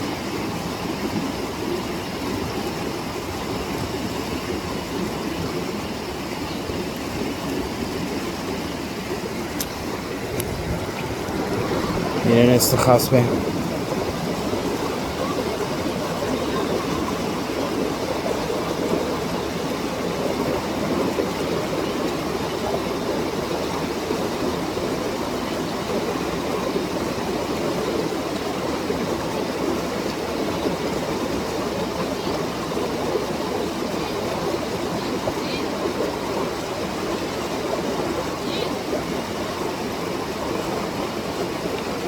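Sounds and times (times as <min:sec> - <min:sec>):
stream flowing water: 0:00.0 - 0:42.0.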